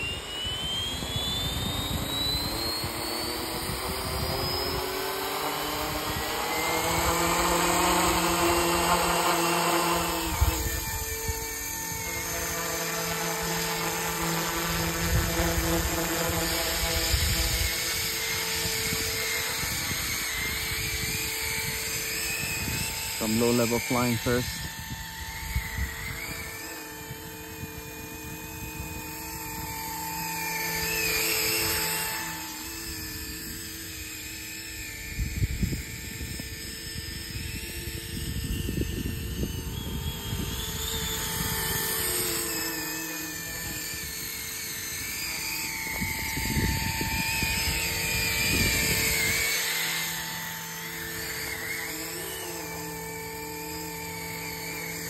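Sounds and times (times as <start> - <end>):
rc helicopter whine: 0.0 - 55.0.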